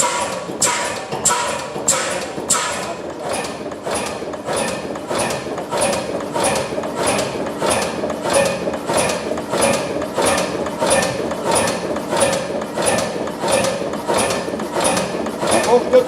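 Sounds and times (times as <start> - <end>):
regular mechanical clack: 0.0 - 16.0
stationary engine ticking over: 0.0 - 16.0.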